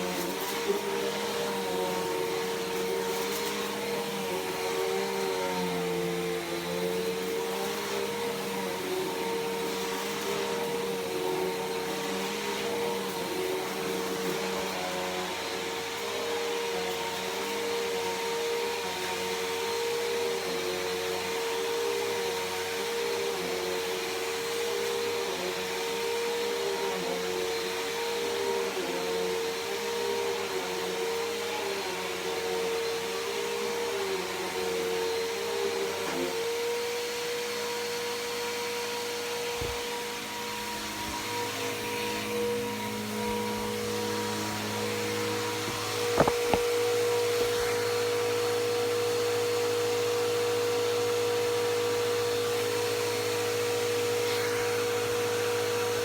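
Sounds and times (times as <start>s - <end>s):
vacuum cleaner running on carpet: 0.0s - 56.0s.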